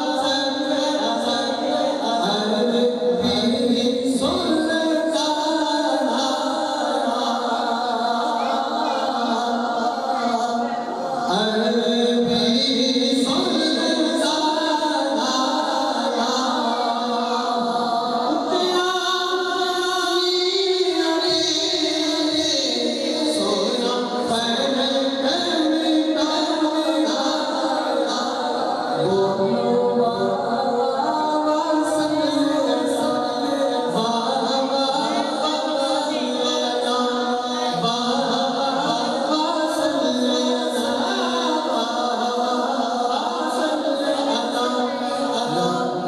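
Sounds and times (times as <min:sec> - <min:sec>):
unaccompanied devotional singing: 0:00.0 - 0:46.0.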